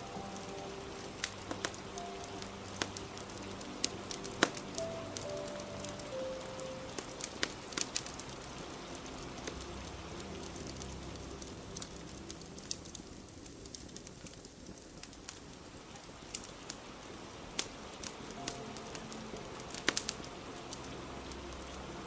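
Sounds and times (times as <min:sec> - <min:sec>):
rain hiss: 0:00.0 - 0:22.0
wood fire crackling and popping: 0:00.0 - 0:22.0.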